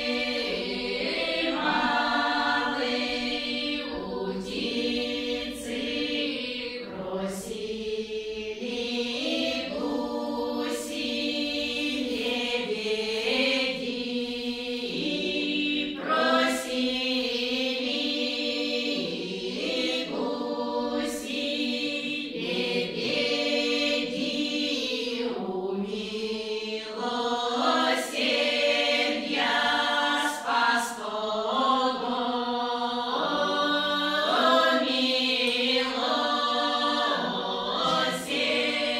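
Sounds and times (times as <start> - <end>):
women singing folk song unaccompanied: 0.0 - 38.9.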